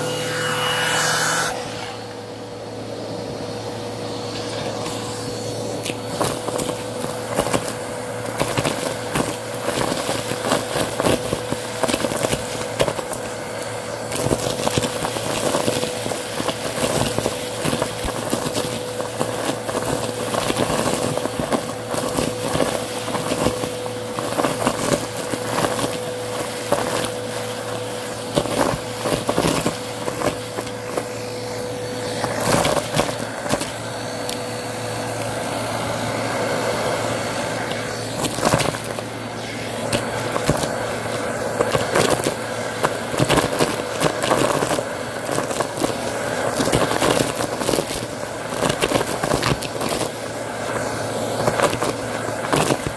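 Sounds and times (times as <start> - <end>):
debris rattling in vacuum hose: 0.0 - 52.9
vacuum motor whine: 0.0 - 52.9.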